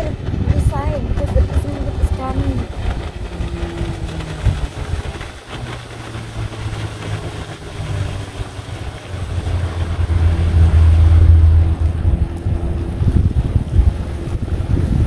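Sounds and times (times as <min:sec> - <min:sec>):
speedboat engine drone: 0:00.0 - 0:15.0.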